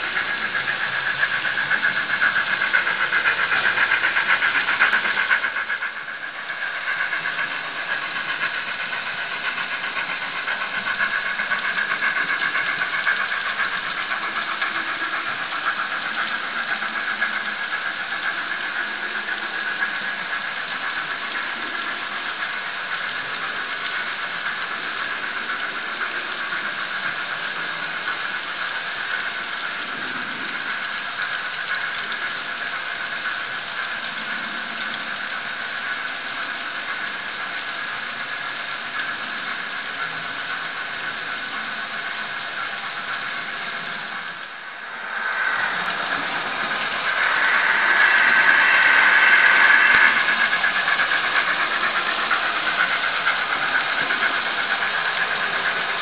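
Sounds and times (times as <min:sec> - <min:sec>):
model train rattling on rails: 0:00.0 - 0:56.0.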